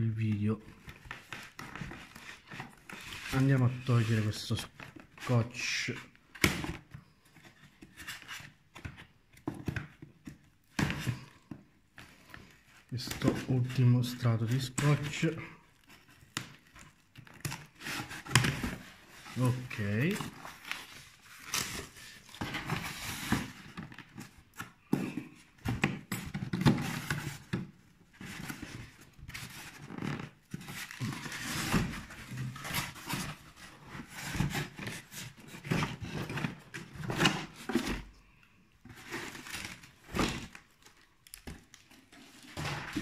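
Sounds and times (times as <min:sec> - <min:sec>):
plastic and cardboard rustling: 0:00.0 - 0:43.0.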